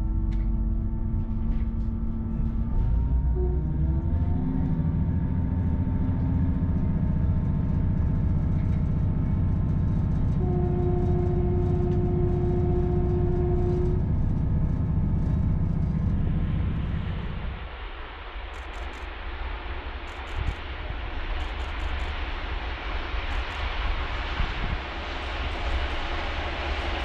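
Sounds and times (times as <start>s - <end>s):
steady whine: 0.0s - 27.0s
train rumbling: 0.0s - 27.0s.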